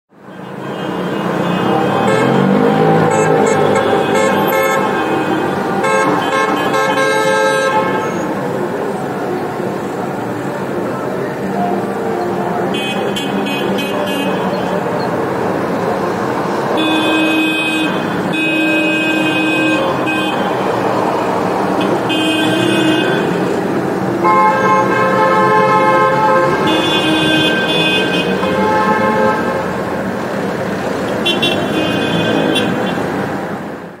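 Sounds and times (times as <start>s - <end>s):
steady traffic noise: 0.1s - 34.0s
car horns honking: 0.2s - 8.6s, 11.4s - 30.1s, 30.9s - 33.3s.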